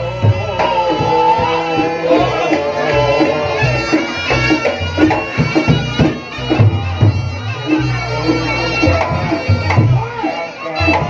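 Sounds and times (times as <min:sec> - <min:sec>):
shawm melody: 0:00.0 - 0:11.0.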